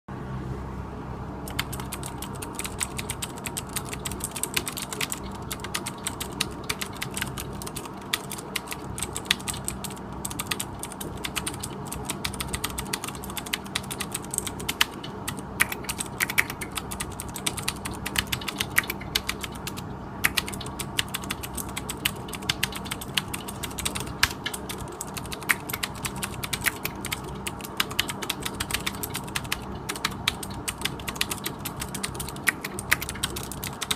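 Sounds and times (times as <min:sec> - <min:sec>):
steady low hum: 0:00.1 - 0:33.9
clicky keyboard typing: 0:01.5 - 0:33.9.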